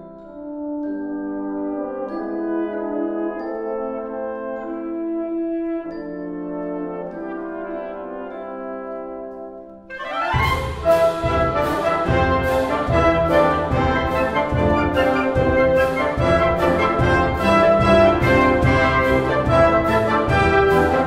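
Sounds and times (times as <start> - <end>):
wind band playing sustained chords: 0.6 - 21.0.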